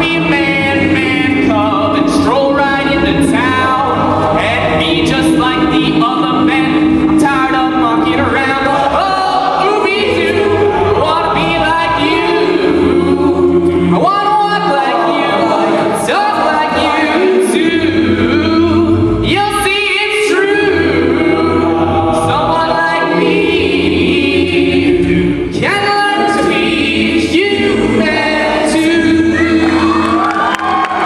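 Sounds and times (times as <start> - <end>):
a cappella group singing: 0.0 - 31.0.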